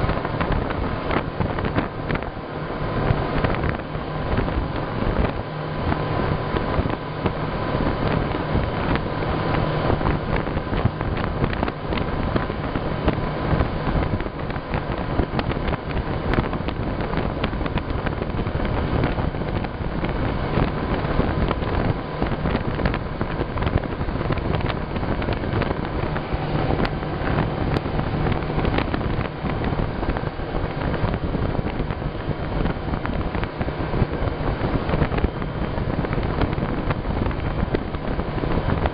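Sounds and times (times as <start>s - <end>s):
motorboat engine hum: 0.0s - 38.9s
wind noise on microphone: 0.0s - 38.9s.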